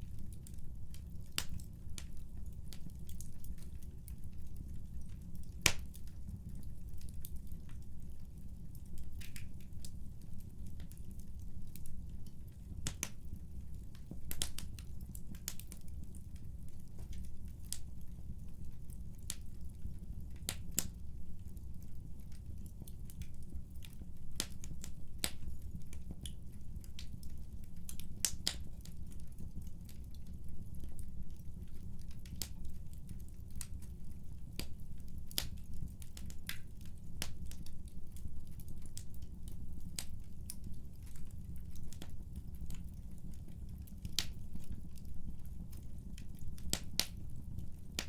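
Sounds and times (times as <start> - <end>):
wood fire crackling: 0.0 - 48.0
fire pops and snaps: 0.1 - 48.0.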